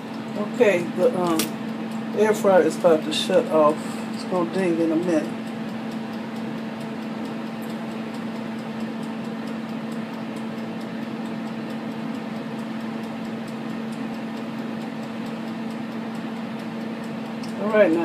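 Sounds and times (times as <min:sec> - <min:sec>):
air fryer fan humming: 0:00.0 - 0:18.0
timer dial ticking: 0:00.0 - 0:18.0.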